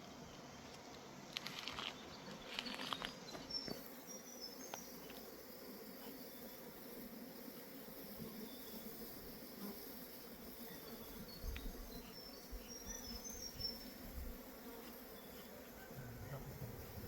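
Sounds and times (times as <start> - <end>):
bees buzzing: 2.2 - 17.0.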